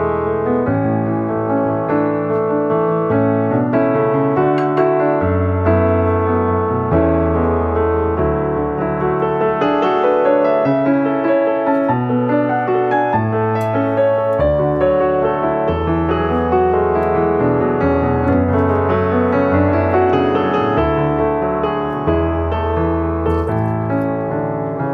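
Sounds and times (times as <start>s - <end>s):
calm piano chords: 0.0s - 24.9s.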